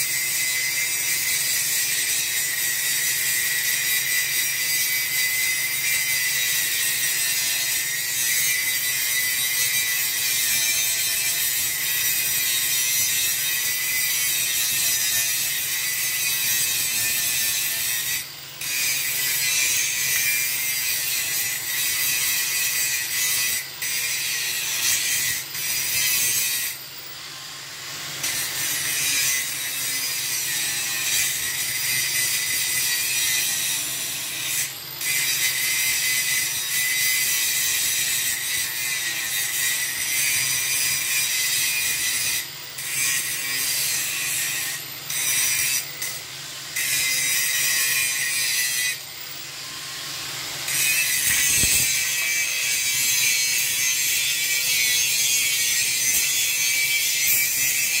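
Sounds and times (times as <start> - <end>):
power tool grinding metal: 0.0 - 58.0.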